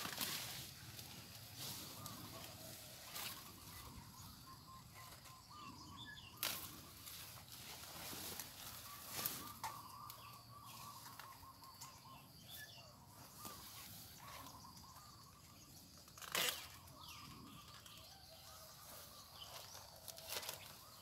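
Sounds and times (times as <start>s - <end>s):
faint outdoor ambience: 0.0s - 21.0s.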